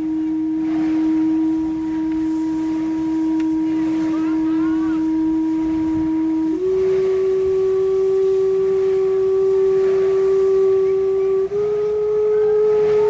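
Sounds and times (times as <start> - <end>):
steam calliope whistle: 0.0 - 13.0.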